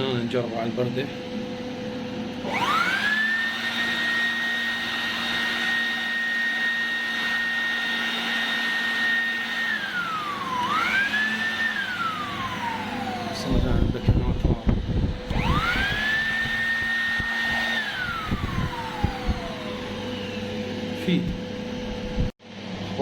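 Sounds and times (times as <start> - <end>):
electric air blower whine: 0.0 - 23.0.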